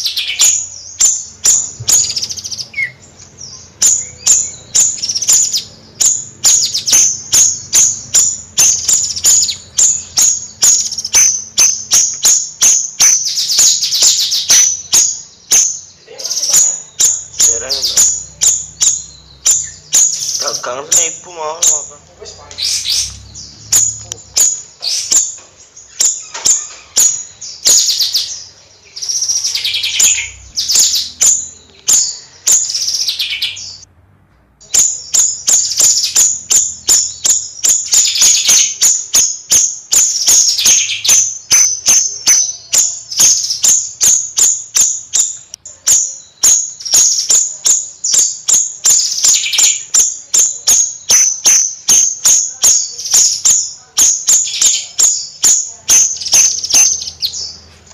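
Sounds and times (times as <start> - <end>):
songbird chirping and trilling: 0.0 - 33.9, 34.5 - 57.9.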